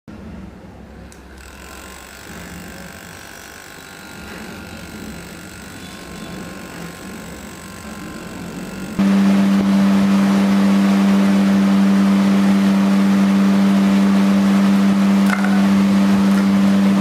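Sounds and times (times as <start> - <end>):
small motor fan whirring: 0.9 - 17.0.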